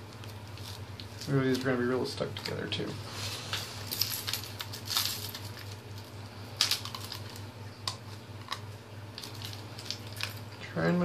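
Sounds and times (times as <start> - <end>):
cards clicking and crackling: 0.0 - 2.9, 3.5 - 10.5.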